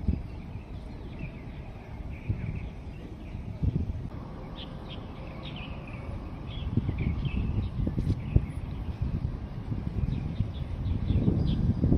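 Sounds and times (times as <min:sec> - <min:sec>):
low outdoor rumble: 0:00.0 - 0:11.9.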